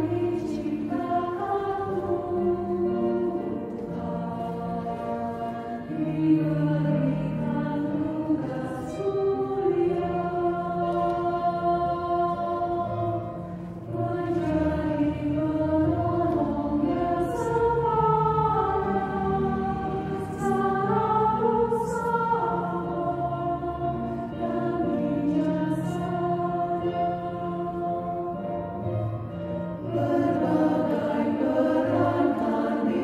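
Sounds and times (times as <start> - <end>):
women's choir singing a hymn: 0.0 - 33.0.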